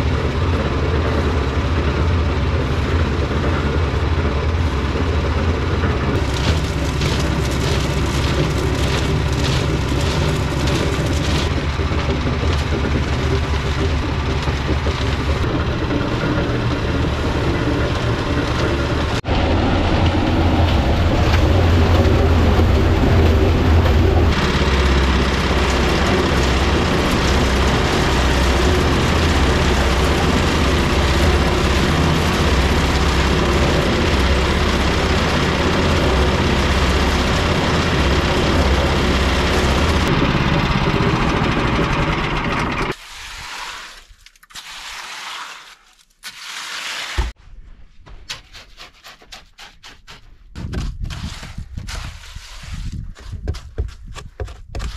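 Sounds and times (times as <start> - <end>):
concrete mixer engine droning: 0.0 - 44.0.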